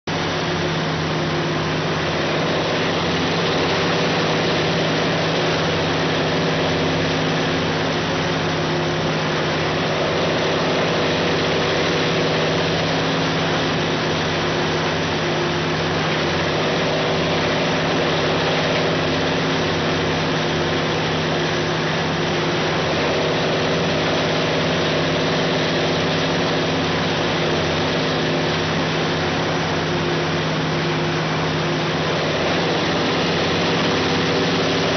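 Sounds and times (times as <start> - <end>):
diesel engine droning: 0.1 - 34.9.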